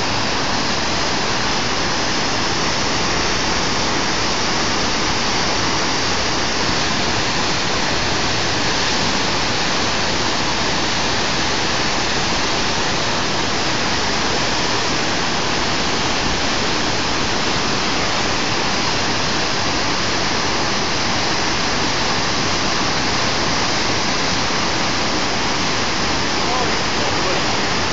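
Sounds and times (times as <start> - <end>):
river whitewater rushing: 0.0 - 27.9.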